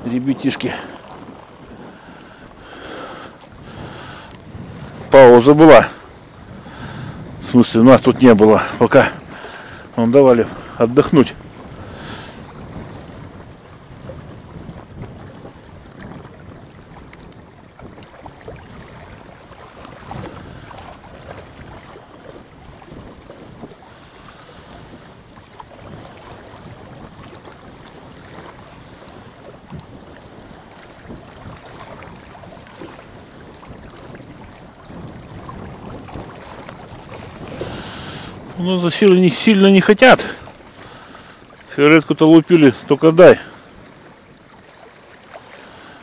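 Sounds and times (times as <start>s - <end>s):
waves lapping against rocks: 0.0s - 46.0s.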